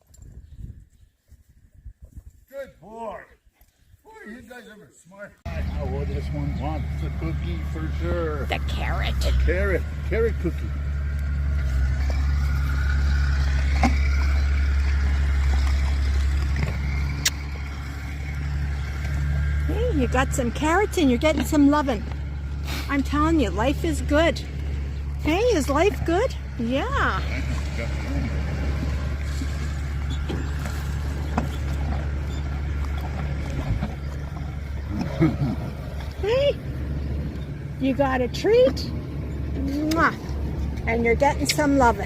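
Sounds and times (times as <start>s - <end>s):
vehicle engine idling: 5.4s - 42.0s.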